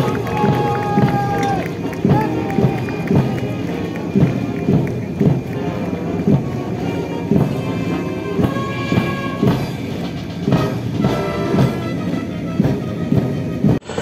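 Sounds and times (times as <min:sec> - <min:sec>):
military brass band march: 0:00.0 - 0:14.0.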